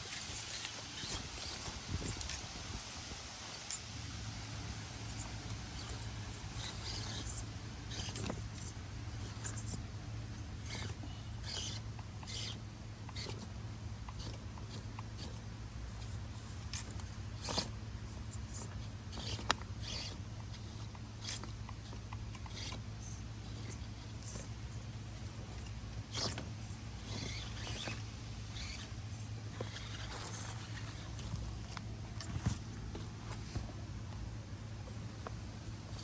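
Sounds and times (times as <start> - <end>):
low steady hum: 0.0 - 36.0
rc car tires scrabbling on rock: 0.0 - 36.0.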